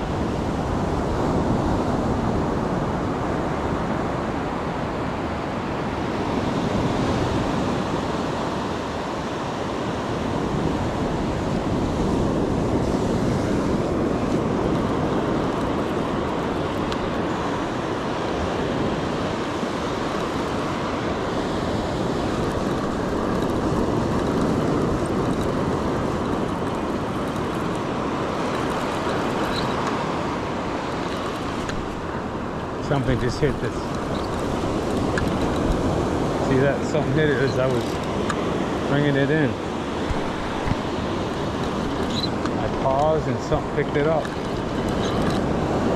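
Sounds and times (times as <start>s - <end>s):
surf breaking on beach: 0.0s - 45.9s
wind on microphone: 0.0s - 45.9s.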